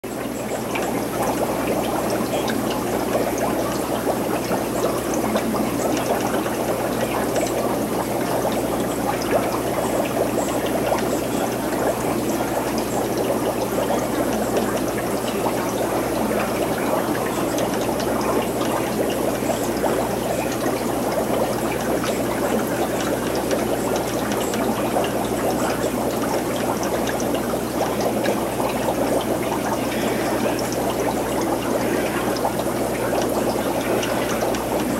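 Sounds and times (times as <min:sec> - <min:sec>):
aquarium water trickling and bubbling: 0:00.0 - 0:34.9.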